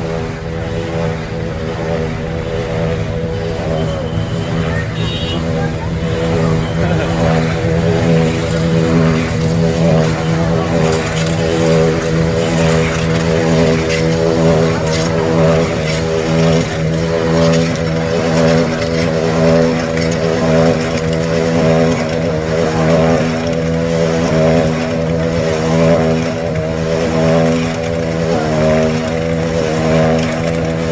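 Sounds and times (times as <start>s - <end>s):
motorcycle engines at high revs: 0.0s - 30.9s.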